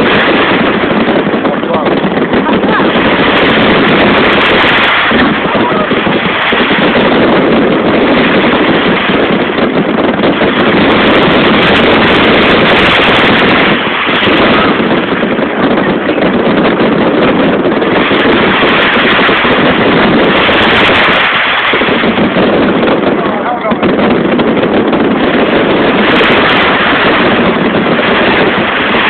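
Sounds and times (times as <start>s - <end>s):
fireworks banging and crackling: 0.0s - 29.0s.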